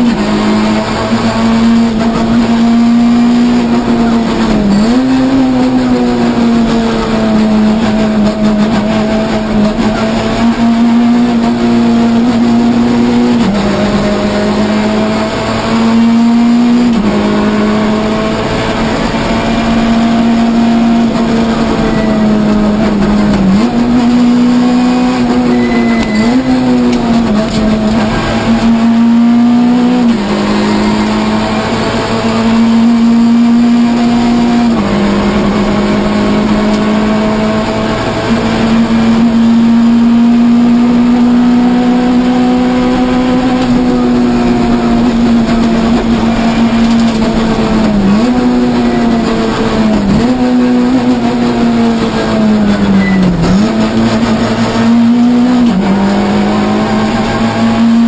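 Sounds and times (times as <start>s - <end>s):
rally car engine revving high: 0.0s - 58.0s.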